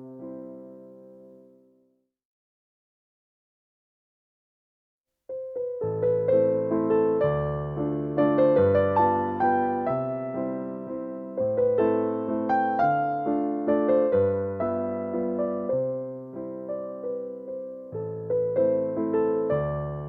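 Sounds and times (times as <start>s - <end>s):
gentle piano melody: 0.0s - 1.8s, 5.3s - 20.0s.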